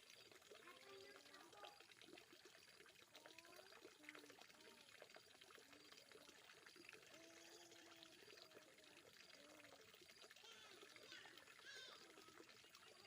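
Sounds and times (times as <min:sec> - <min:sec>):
water trickling and gurgling: 0:00.0 - 0:13.0.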